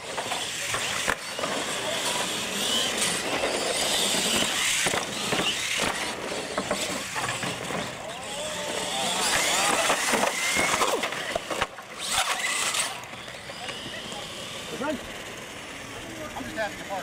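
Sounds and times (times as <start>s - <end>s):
toy truck motors whining: 0.0s - 17.0s
tyres rolling on pavement: 0.0s - 17.0s.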